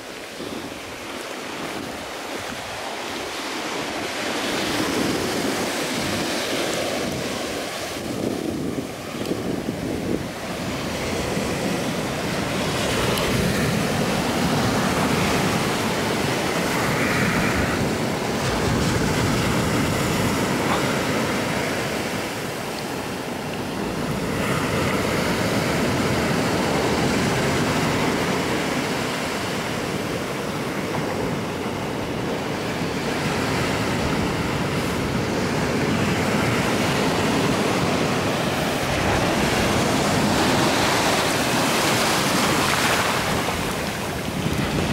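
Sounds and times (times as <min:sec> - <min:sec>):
ocean surf breaking: 0:00.0 - 0:44.9.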